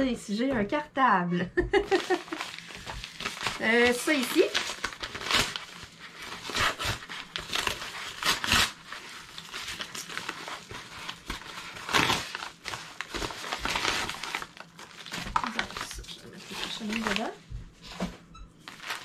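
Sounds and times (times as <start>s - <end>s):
paper envelope crinkling and ripping: 1.8s - 18.0s, 18.6s - 19.0s.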